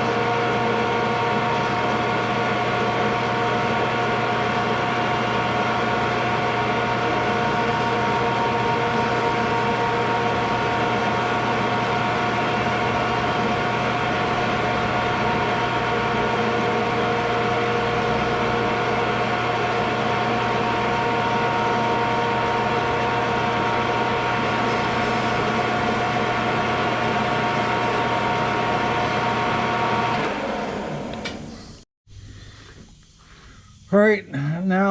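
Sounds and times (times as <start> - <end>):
metal lathe whine: 0.0 - 31.8.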